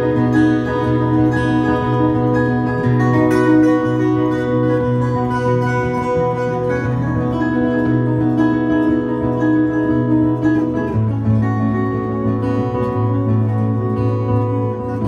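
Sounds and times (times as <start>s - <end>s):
acoustic guitar duet: 0.0s - 15.0s.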